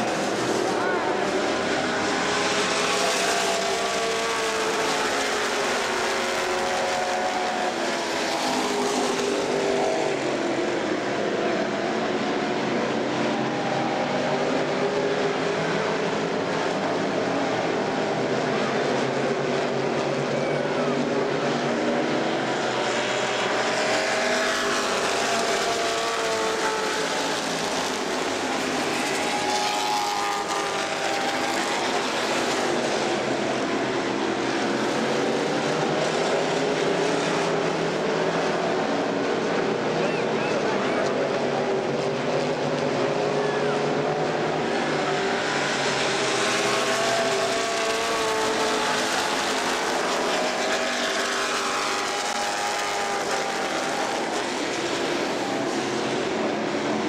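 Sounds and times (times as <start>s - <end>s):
stock car engines racing: 0.0s - 57.0s.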